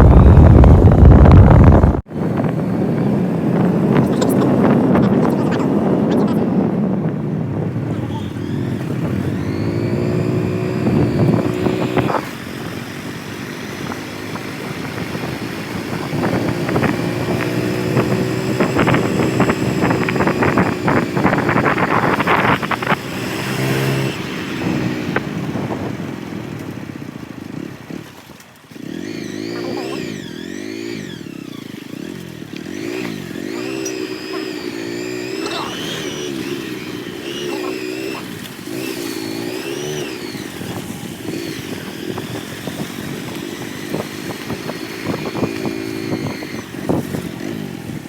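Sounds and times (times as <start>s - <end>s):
motorcycle engine: 0.0s - 48.0s
road and wind noise: 0.0s - 48.0s.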